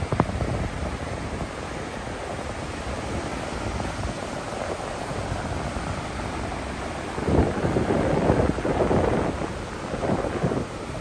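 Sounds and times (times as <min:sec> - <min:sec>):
ocean surf roar: 0:00.0 - 0:11.0
wave crashing: 0:00.0 - 0:11.0.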